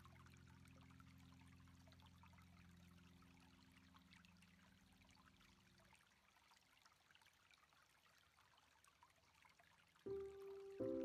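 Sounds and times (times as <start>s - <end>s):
faint crackly hiss: 0.0s - 11.0s.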